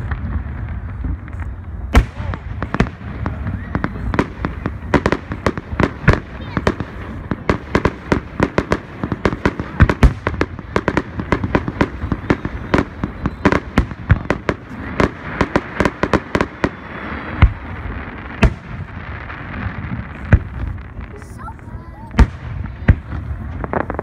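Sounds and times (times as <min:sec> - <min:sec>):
fireworks cracking and banging: 0:00.0 - 0:24.0
fireworks hiss: 0:00.0 - 0:24.0.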